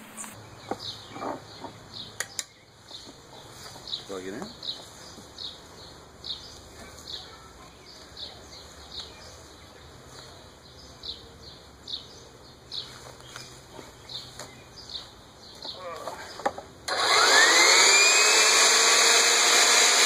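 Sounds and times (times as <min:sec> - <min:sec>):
bird chirping: 0:00.0 - 0:16.5.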